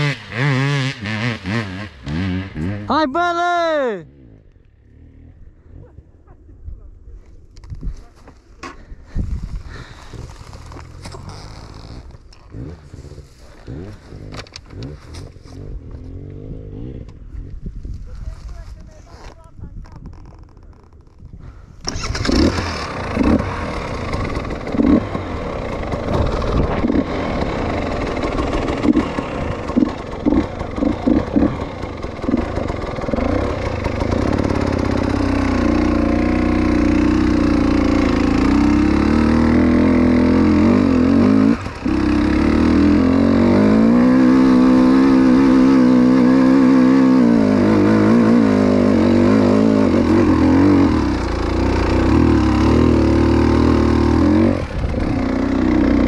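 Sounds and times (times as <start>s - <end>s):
motorcycle engine revving: 0.0s - 3.1s, 4.0s - 6.0s, 9.7s - 18.0s, 20.1s - 56.0s.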